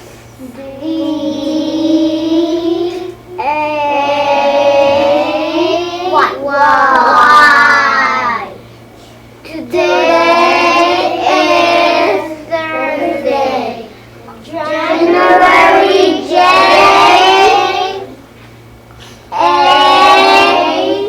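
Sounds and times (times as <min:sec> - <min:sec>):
young children singing: 0:00.4 - 0:08.6, 0:09.5 - 0:18.2, 0:19.3 - 0:21.0.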